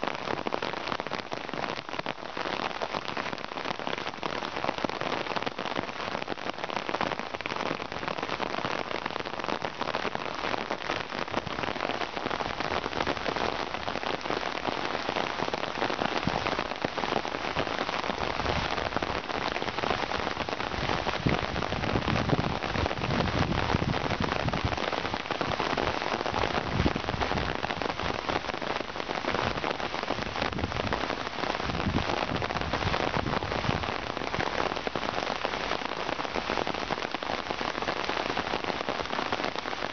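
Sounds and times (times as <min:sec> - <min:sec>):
rain on fabric umbrella: 0:00.0 - 0:39.9.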